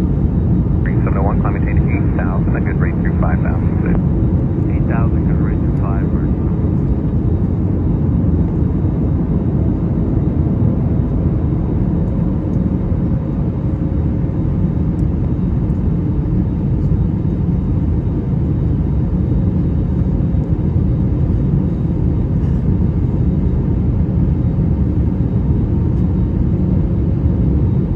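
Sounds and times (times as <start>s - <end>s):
airplane cabin engine rumble: 0.0s - 27.9s.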